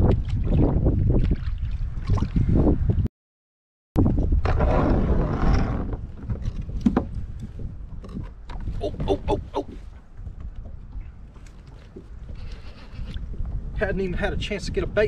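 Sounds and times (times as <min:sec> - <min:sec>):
wind buffeting microphone: 0:00.0 - 0:03.1, 0:04.0 - 0:15.0.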